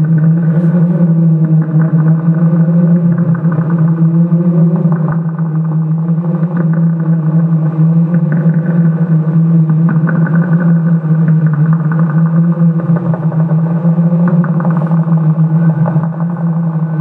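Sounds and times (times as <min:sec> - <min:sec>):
low buzzing drone: 0:00.0 - 0:17.0.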